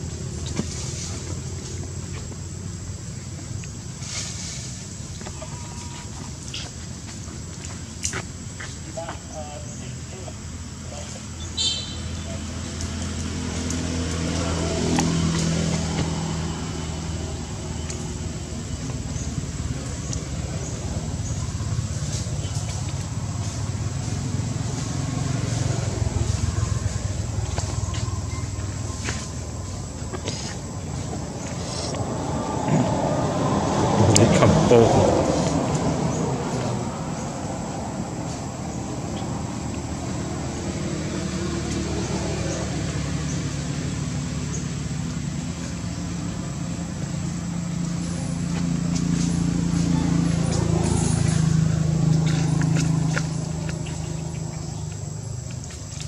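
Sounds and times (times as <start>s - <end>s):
low engine hum: 0.0s - 56.0s.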